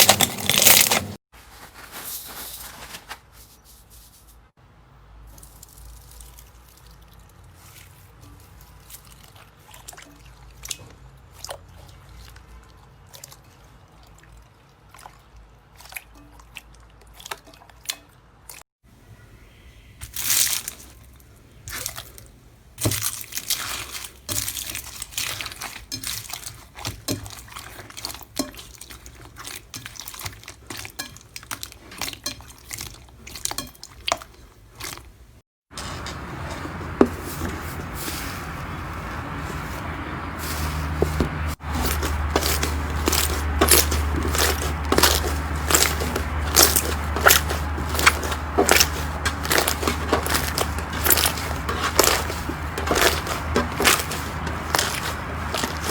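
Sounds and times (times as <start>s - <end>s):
slime squelching: 5.4s - 18.6s, 19.9s - 55.9s.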